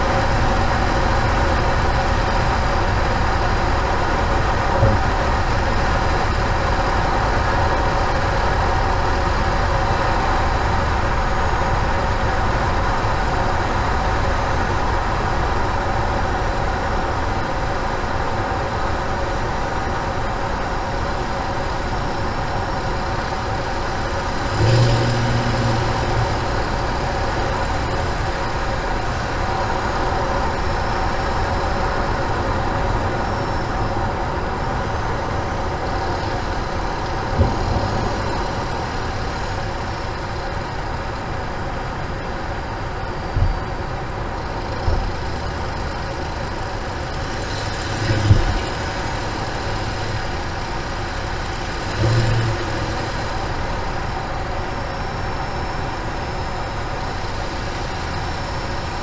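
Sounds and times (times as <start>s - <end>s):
road tyre and engine noise: 0.0s - 59.0s.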